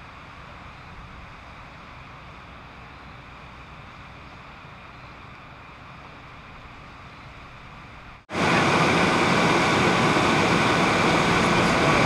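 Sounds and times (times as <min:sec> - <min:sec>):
fire engine pump running: 0:00.0 - 0:12.0.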